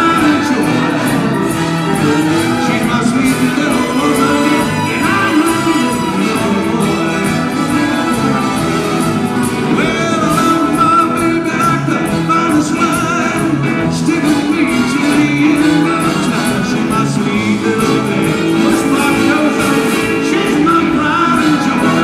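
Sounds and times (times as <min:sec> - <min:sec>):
drums: 0:00.0 - 0:22.0
electric guitars: 0:00.0 - 0:22.0
person singing: 0:00.0 - 0:22.0
trumpets: 0:00.0 - 0:22.0.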